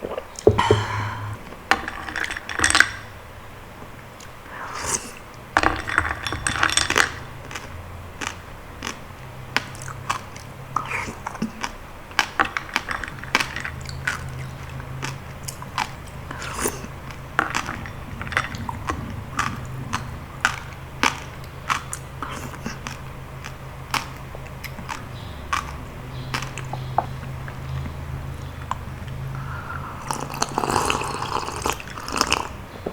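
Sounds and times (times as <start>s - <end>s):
low steady hum: 0.0s - 32.9s
wet chewing and mouth clicks: 4.2s - 32.6s.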